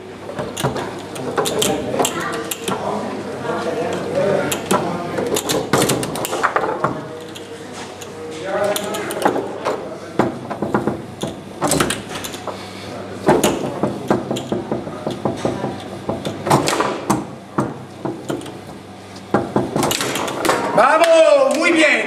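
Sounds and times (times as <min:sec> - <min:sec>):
foosball clacks and knocks: 0:00.3 - 0:03.0, 0:03.9 - 0:12.6, 0:13.2 - 0:21.2.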